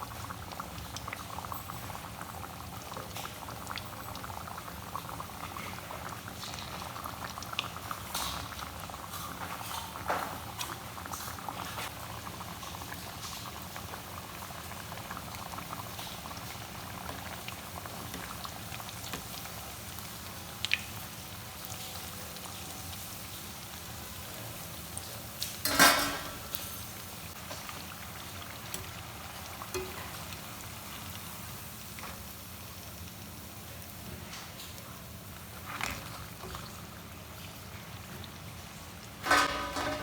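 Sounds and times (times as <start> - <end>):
liquid bubbling in a pan: 0.0 - 40.0.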